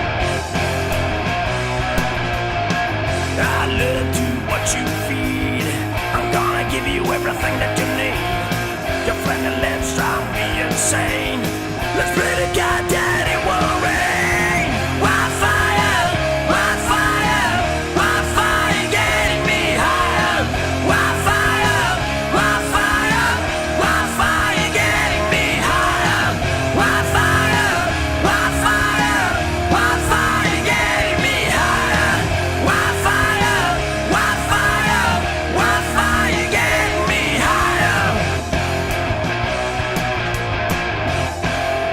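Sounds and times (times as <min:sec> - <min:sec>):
punk rock band playing: 0:00.0 - 0:41.9
shouted vocals: 0:03.4 - 0:38.6.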